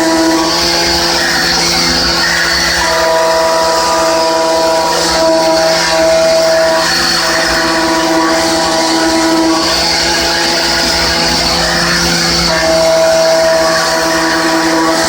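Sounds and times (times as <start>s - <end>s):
milling machine cutting whine: 0.0s - 15.0s.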